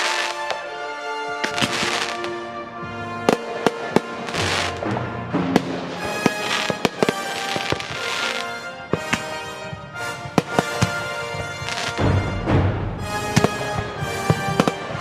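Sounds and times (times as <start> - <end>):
firework bangs: 0.0 - 0.6, 1.4 - 2.5, 3.2 - 15.0
fireworks crackling and fizzing: 0.0 - 0.7, 1.4 - 2.4, 3.3 - 12.2, 13.2 - 15.0
background music: 0.0 - 15.0.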